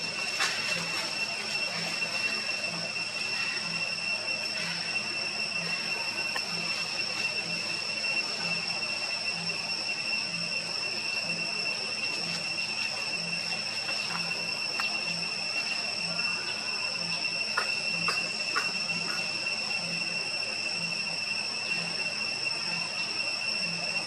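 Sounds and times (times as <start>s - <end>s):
shrill insect buzz: 0.0s - 24.0s.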